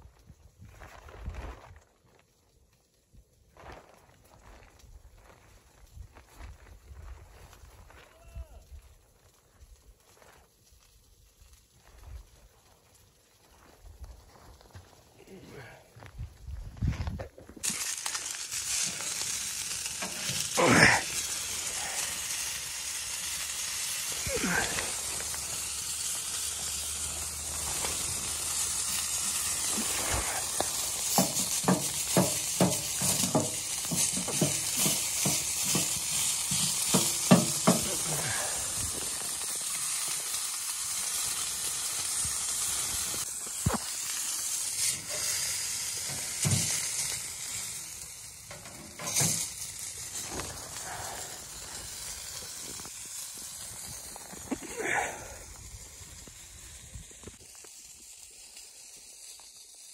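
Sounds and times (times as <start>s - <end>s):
chicken sizzling on a grill: 4.2s - 16.1s, 17.6s - 59.9s.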